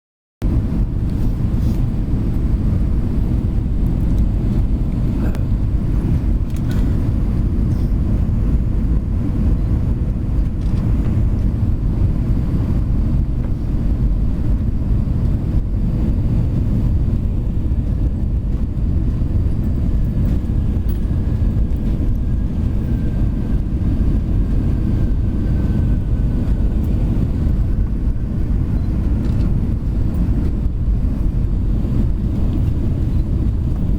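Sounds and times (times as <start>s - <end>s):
low rumble of engines and airflow: 0.4s - 33.9s.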